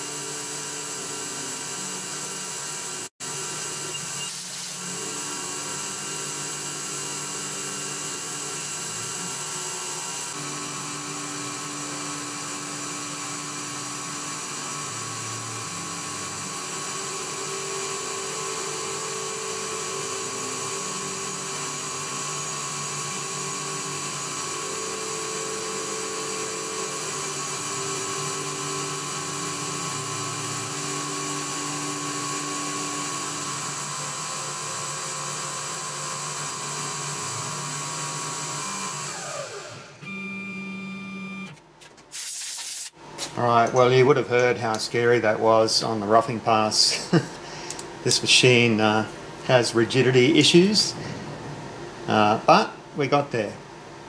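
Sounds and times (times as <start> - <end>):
milling machine spindle whine: 0.0 - 41.6, 43.0 - 54.0.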